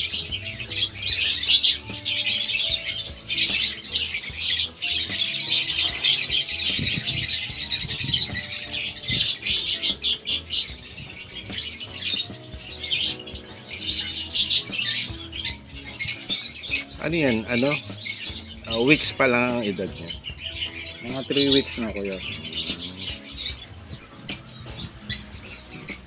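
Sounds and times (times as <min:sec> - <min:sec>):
faint music: 0:00.0 - 0:26.0
young birds squawking begging calls: 0:00.0 - 0:26.0.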